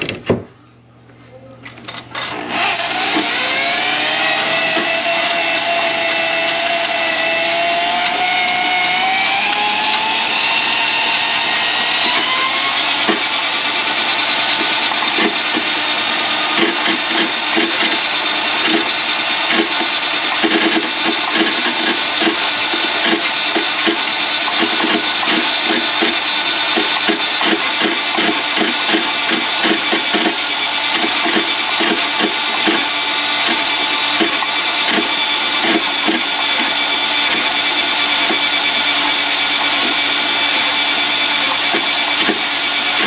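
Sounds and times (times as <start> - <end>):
drain-cleaning machine motor whine: 2.2 - 43.0.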